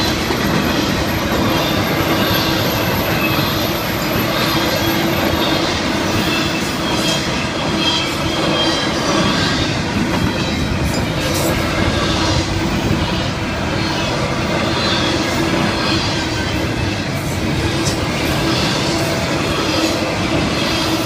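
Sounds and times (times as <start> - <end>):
clickety-clack over rail joints: 0.0 - 21.0
train wheels rumbling on rails: 0.0 - 21.0.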